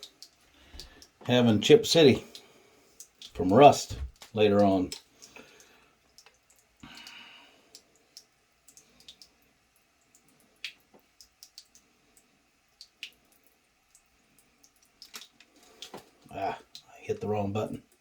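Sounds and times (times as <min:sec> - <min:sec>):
small irregular clicks: 0:00.0 - 0:01.4, 0:02.2 - 0:16.9.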